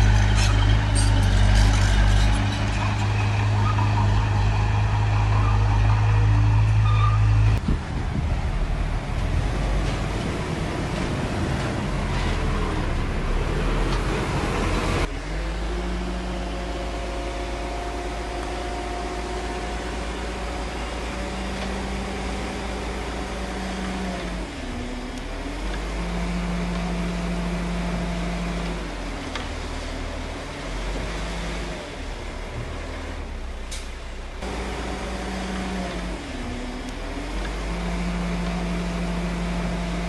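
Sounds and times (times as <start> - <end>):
diesel earth-moving machinery running: 0.0 - 40.0.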